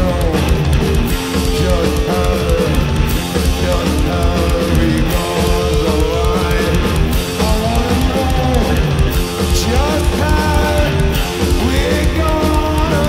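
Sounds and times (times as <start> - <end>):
distorted electric guitar riffing: 0.0 - 13.0
pounding drum kit: 0.0 - 13.0.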